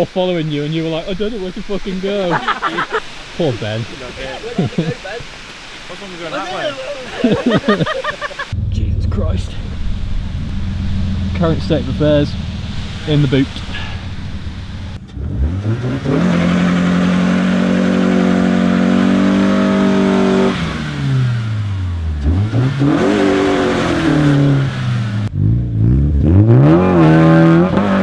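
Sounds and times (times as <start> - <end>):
car engine revving hard: 1.0 - 28.0.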